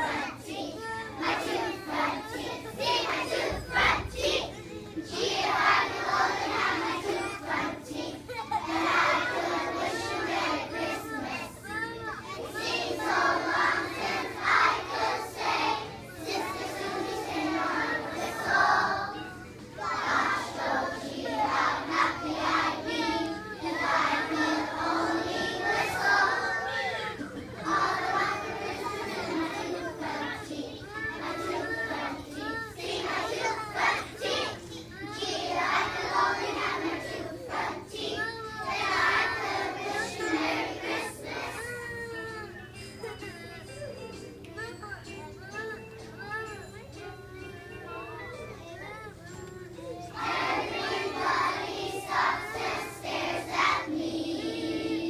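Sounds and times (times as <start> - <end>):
children singing together: 0.0 - 43.2, 47.7 - 55.0.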